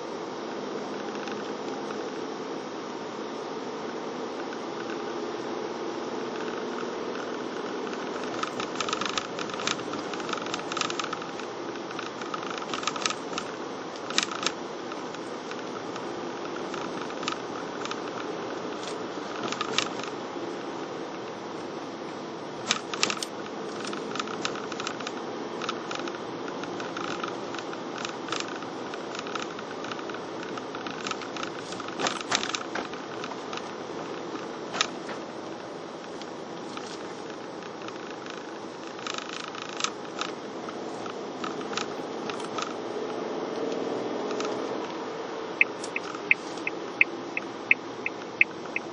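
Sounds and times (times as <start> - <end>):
car engine and tyres hum: 0.0 - 48.9.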